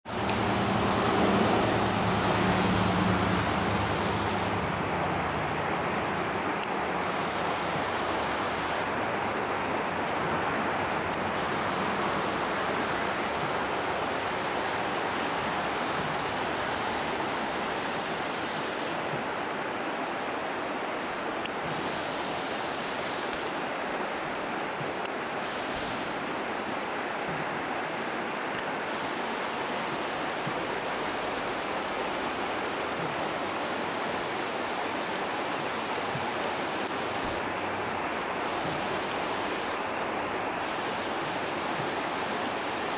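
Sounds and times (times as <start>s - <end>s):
creek flowing over stones: 0.0s - 42.9s.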